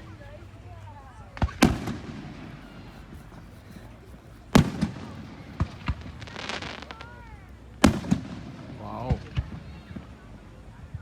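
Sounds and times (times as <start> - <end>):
firework crackle: 1.2 - 11.0
fireworks loud bangs: 1.3 - 10.3
small firework pops: 1.3 - 10.4.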